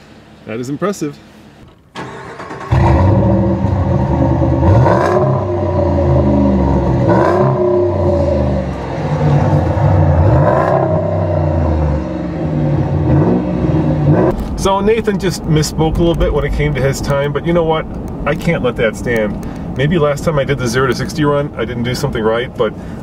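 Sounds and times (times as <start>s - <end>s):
truck engine accelerating: 2.0s - 21.7s.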